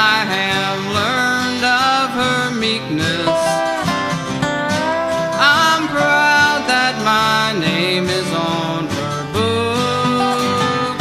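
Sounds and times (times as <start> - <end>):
resonator guitar sliding notes: 0.0 - 11.0
strummed acoustic guitar: 0.0 - 11.0.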